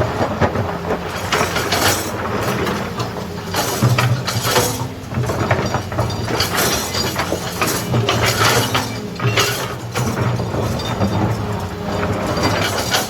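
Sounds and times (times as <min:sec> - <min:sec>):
excavator diesel engine running: 0:00.0 - 0:13.0
metallic clanking: 0:00.5 - 0:13.0.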